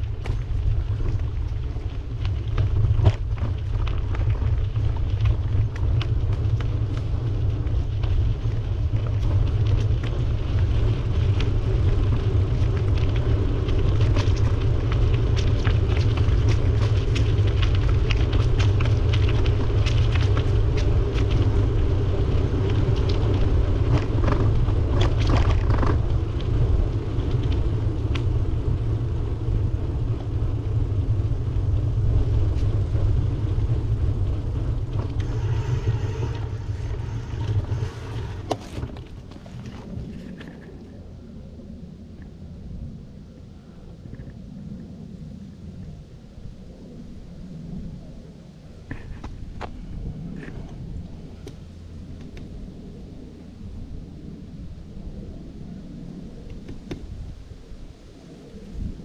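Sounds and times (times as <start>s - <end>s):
road noise: 0.0s - 59.0s
wind rumbling on microphone: 0.0s - 59.0s.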